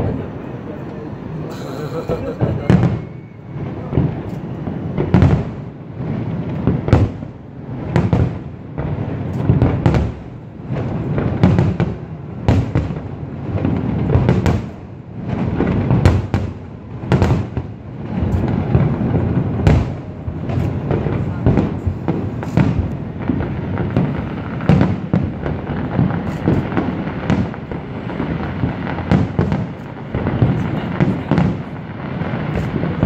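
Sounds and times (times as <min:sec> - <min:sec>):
fireworks bursting: 0:00.0 - 0:33.0.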